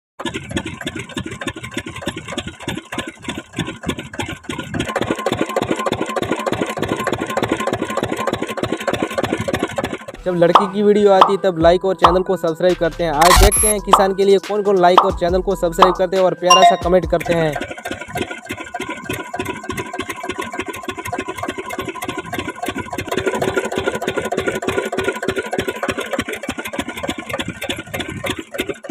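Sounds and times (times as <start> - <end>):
diesel engine starting: 0.2 - 13.2, 17.0 - 28.9.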